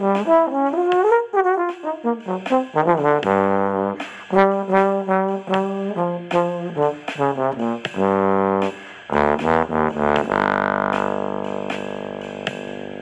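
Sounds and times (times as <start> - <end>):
solo trombone playing: 0.0 - 13.0.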